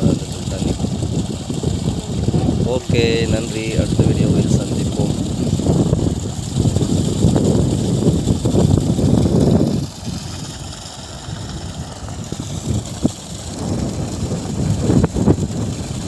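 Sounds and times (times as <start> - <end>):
water gushing onto muddy ground: 0.0 - 16.0.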